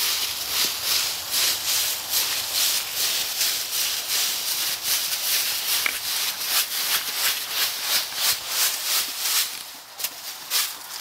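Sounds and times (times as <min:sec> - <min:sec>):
footsteps crunching dry leaves: 0:00.0 - 0:11.0.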